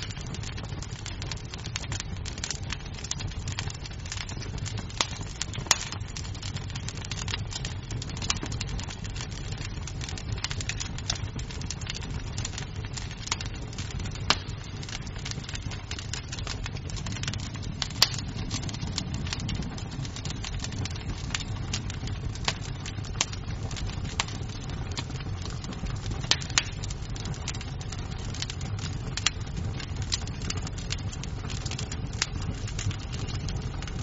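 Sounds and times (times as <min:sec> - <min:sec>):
burning wood crackling: 0:00.0 - 0:34.0
fire flames rumbling: 0:00.0 - 0:34.0.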